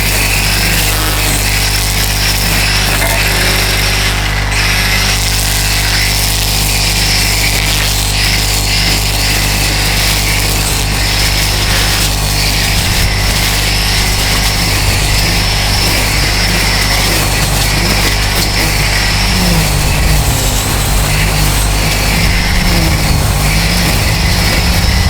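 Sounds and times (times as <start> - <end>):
string trimmer cutting weeds: 0.0 - 25.0.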